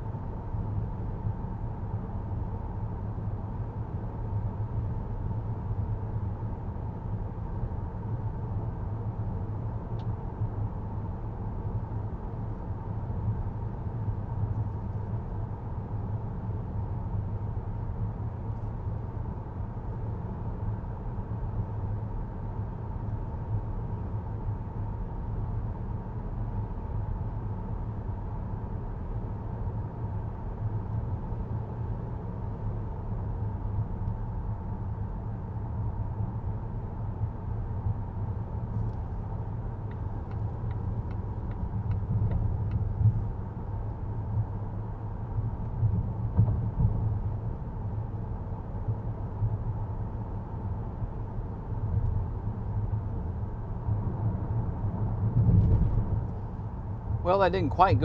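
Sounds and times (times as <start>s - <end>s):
road and tyre noise in car: 0.0s - 58.0s.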